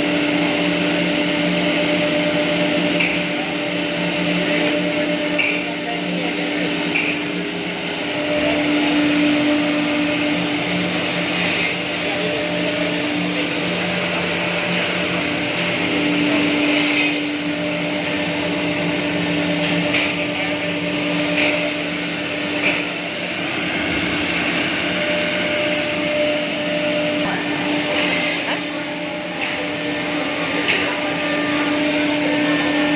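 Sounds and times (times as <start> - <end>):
router spindle whine: 0.0 - 32.9.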